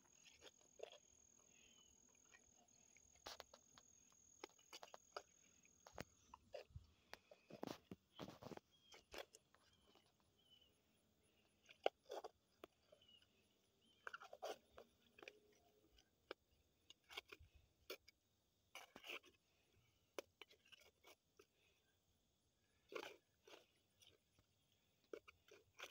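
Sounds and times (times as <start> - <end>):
hands scraping wet mud: 0.1 - 10.7, 11.3 - 21.8, 22.6 - 25.9.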